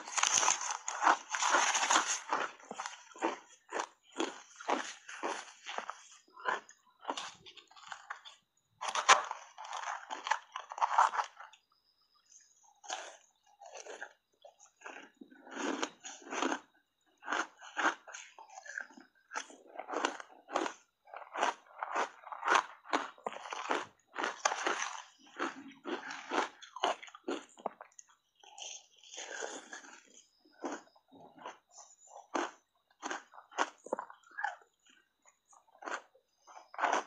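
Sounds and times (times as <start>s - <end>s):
crunchy ice chewing: 0.0s - 37.0s.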